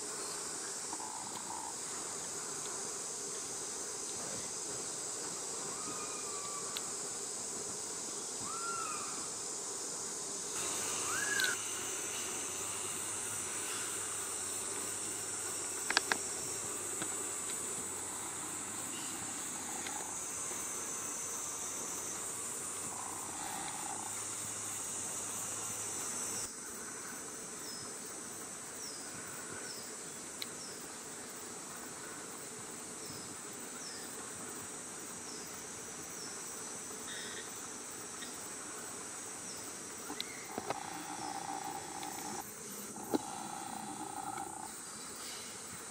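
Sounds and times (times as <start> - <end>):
insects chorus: 0.0 - 45.9.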